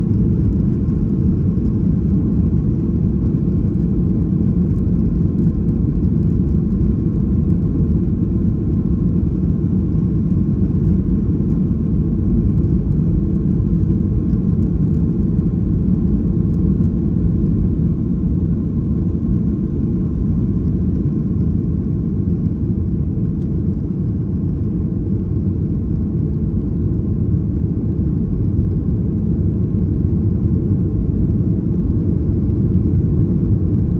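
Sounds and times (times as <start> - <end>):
jet engines rumbling in cabin: 0.0 - 33.9.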